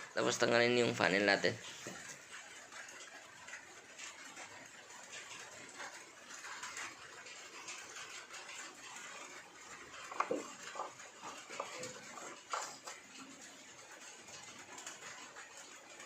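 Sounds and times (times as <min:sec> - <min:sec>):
clatter of knocks: 0:01.7 - 0:16.0.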